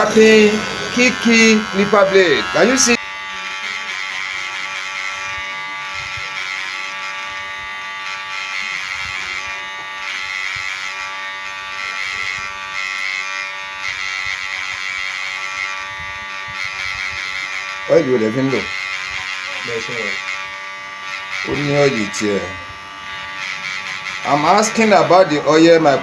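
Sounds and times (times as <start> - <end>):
hair clipper buzzing: 0.0 - 26.0.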